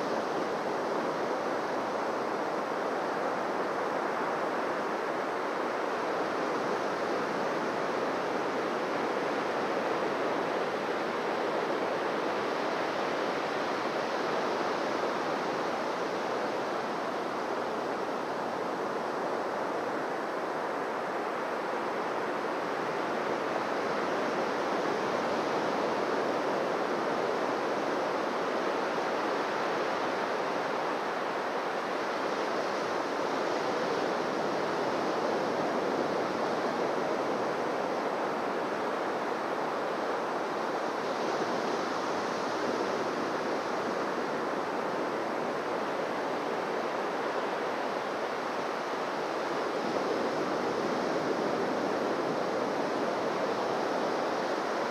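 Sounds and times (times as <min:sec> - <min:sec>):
surf washing onto a beach: 0:00.0 - 0:54.9.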